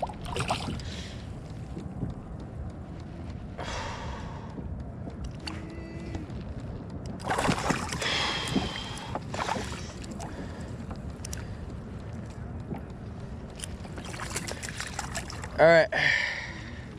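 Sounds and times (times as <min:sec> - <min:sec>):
water splashing around kayak: 0:00.0 - 0:02.1, 0:03.6 - 0:16.9
wind buffeting microphone: 0:00.0 - 0:16.9.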